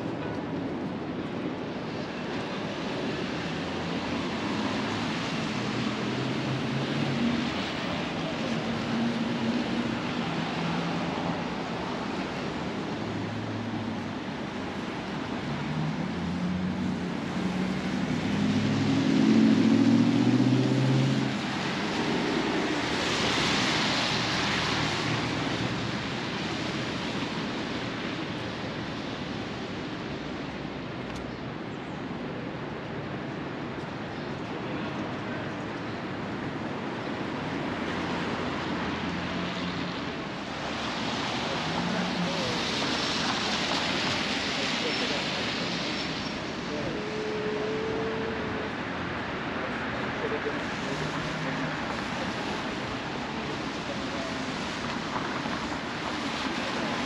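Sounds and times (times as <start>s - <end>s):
rain hiss on street: 0.0s - 57.0s
tyres hissing on wet road: 1.6s - 57.0s.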